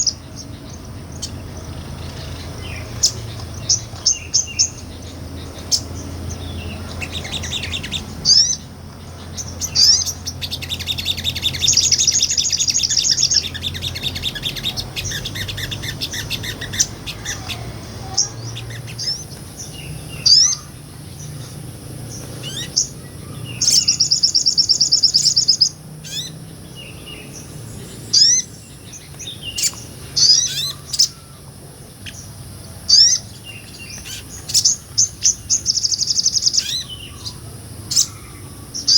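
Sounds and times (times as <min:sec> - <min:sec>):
bird chirps: 0:00.0 - 0:38.9
fast buzzy bird trills: 0:00.0 - 0:38.9.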